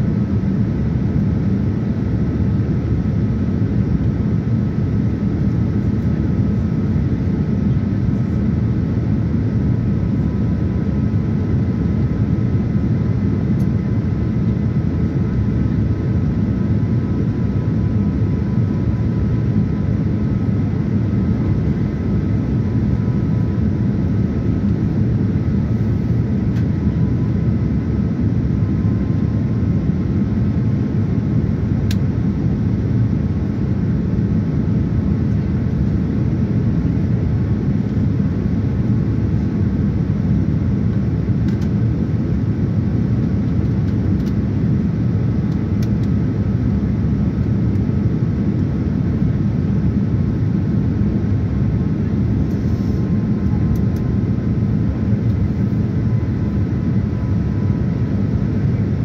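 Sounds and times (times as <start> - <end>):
airliner cabin rumble: 0.0 - 59.0
faint steady whine: 0.0 - 59.0.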